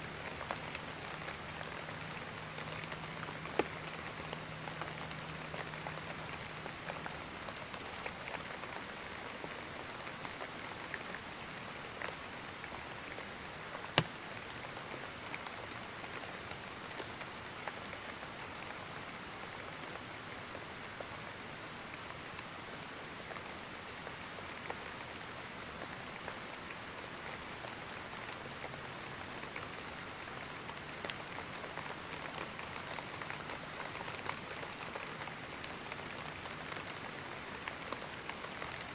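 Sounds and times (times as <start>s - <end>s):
raindrops ticking on surface: 0.0s - 38.9s
steady rain hiss: 0.0s - 38.9s.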